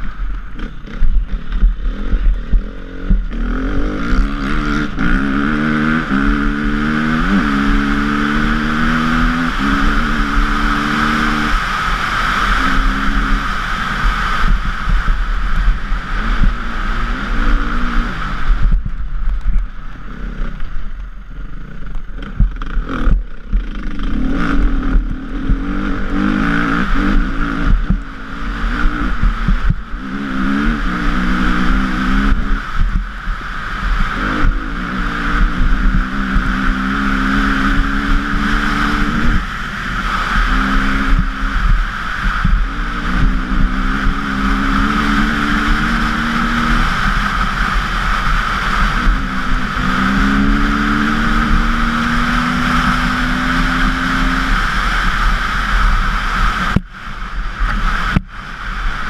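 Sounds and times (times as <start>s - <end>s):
dirt bike engine revving: 0.0s - 56.8s.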